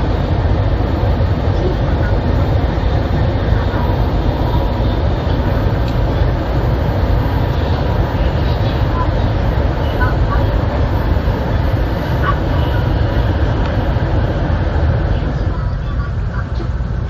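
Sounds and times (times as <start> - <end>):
train running through tunnel: 0.0 - 17.0.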